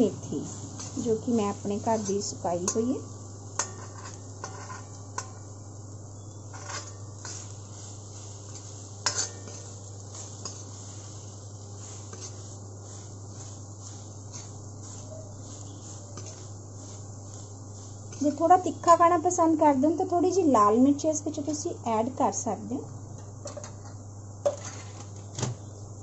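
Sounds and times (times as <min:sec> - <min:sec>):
faint oil sizzle: 0:00.0 - 0:26.0
steady low hum: 0:00.0 - 0:26.0.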